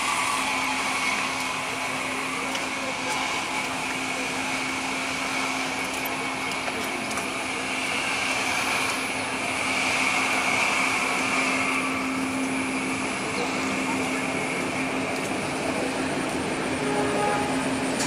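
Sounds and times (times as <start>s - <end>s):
train mechanical drone: 0.0s - 18.0s.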